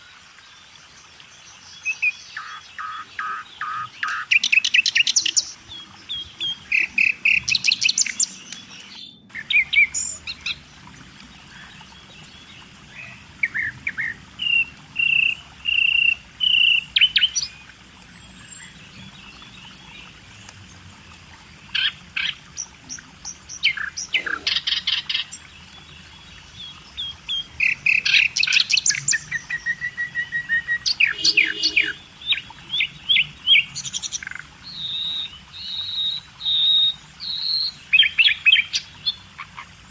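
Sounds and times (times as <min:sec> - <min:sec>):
songbirds singing and chirping: 0:00.0 - 0:39.4.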